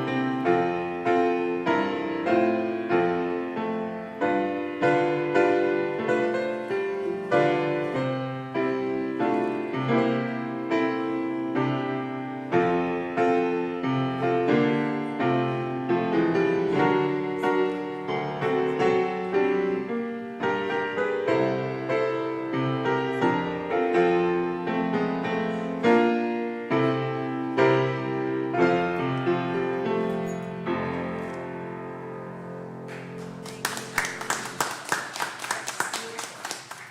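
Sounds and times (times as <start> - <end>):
solo piano playing: 0.0 - 34.5.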